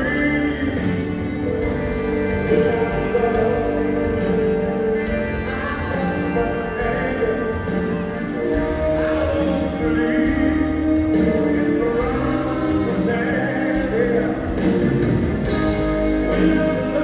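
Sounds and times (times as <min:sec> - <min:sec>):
live pop ballad band: 0:00.0 - 0:17.0
person singing: 0:00.0 - 0:17.0
steady drum beat: 0:00.0 - 0:17.0.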